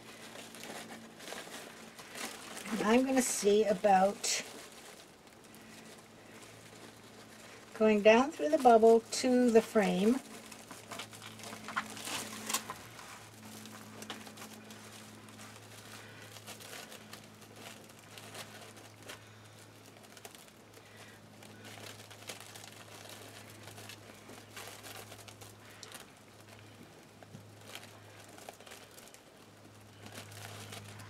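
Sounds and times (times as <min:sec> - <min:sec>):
plastic mesh crinkling: 0:00.0 - 0:31.0
steady low hum: 0:00.0 - 0:31.0.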